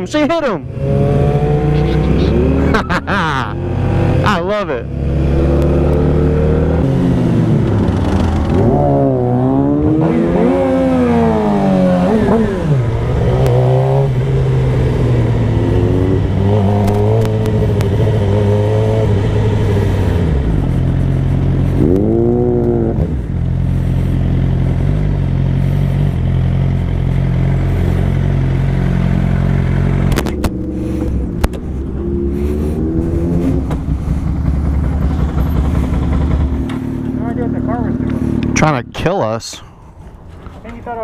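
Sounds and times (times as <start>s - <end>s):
motorcycle engine running: 0.7s - 39.1s.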